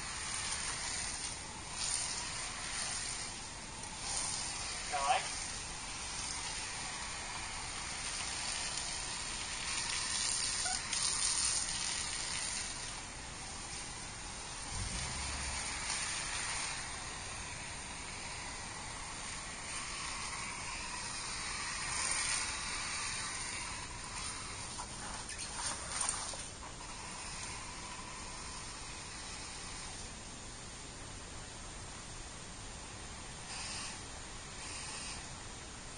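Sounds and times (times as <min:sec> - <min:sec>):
hose nozzle spraying water: 0:00.0 - 0:30.0.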